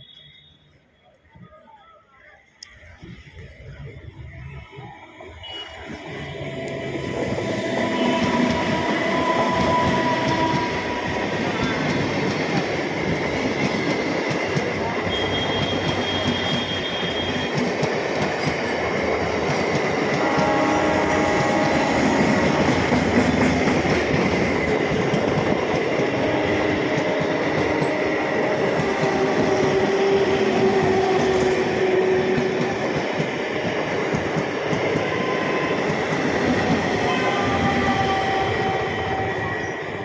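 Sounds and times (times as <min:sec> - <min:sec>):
train wheels rumbling and rattling: 0:03.7 - 0:40.0.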